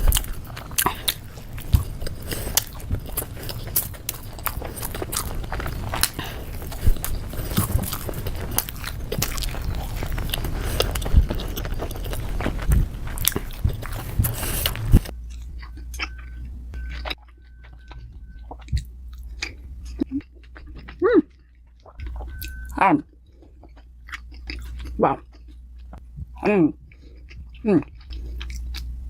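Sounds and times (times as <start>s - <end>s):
person chewing dumplings: 0.0s - 29.0s.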